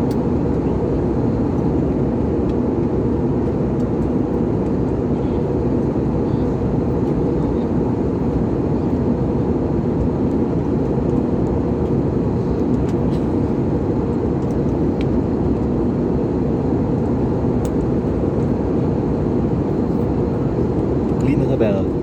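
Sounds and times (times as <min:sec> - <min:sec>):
airliner cabin engine roar: 0:00.0 - 0:22.0.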